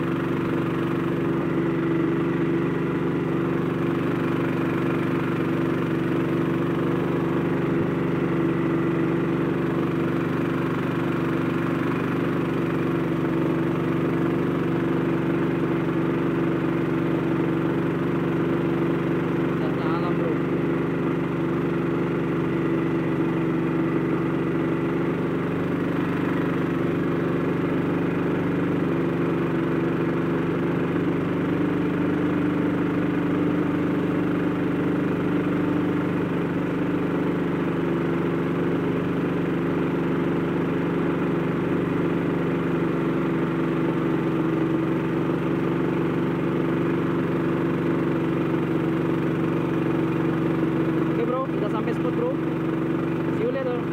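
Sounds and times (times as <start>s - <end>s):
boat engine running steadily: 0.0s - 53.9s.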